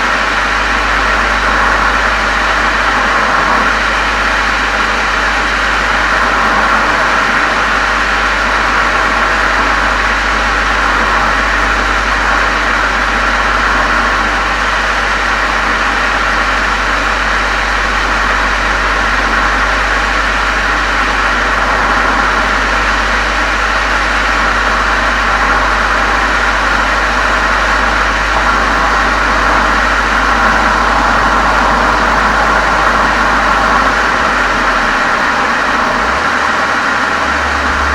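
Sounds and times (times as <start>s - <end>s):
car exhaust running steadily: 0.0s - 37.9s.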